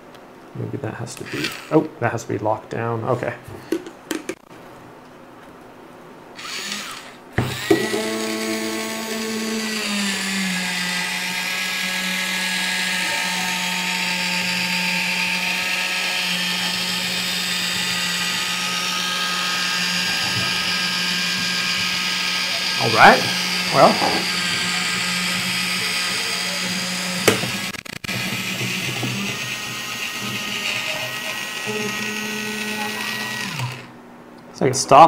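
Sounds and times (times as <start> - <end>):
can opener motor whining: 1.2 - 1.9, 6.4 - 34.0.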